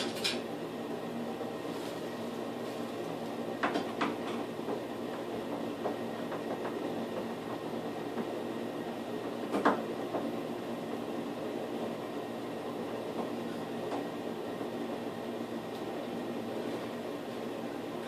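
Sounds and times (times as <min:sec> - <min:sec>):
steady room hum: 0:00.0 - 0:18.0.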